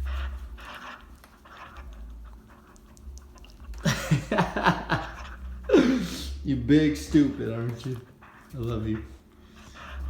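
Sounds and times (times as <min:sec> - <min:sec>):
dog panting: 0:00.0 - 0:10.0
dog vocalizing: 0:00.0 - 0:10.0.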